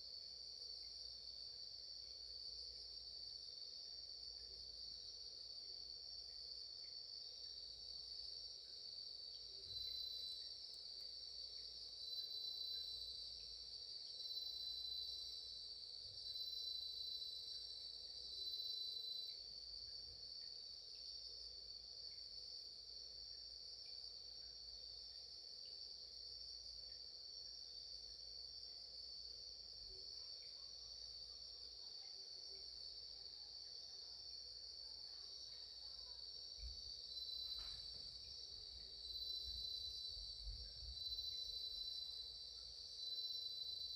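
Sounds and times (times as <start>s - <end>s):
chorus of singing insects: 0.0s - 43.9s.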